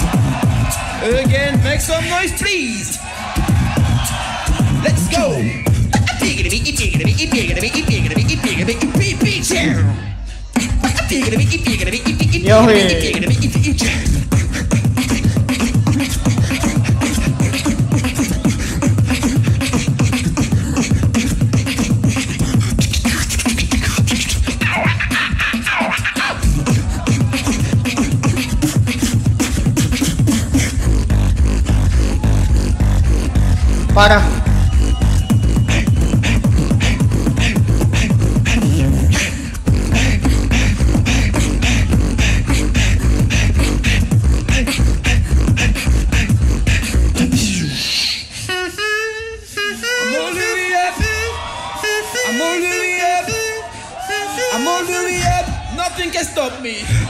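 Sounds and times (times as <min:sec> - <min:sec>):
beatboxing: 0:00.0 - 0:51.3.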